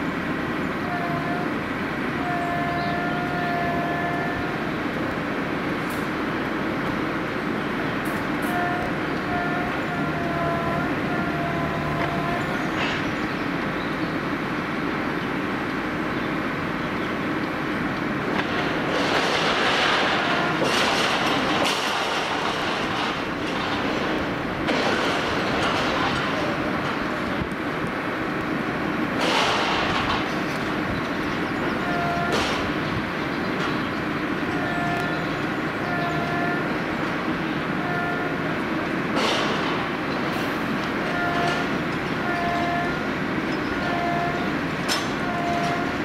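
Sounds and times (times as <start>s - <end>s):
crane mechanical rumble: 0.0s - 46.0s
drive whine: 0.0s - 46.0s.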